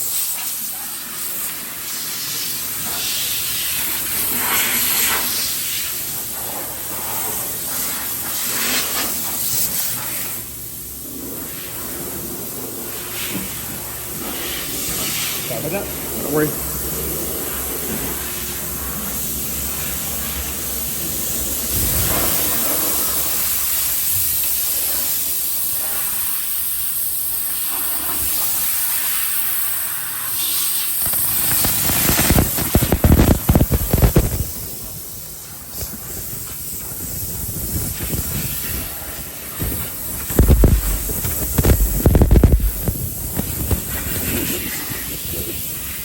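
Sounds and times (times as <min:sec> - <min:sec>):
water spray hissing on car: 0:00.0 - 0:46.0.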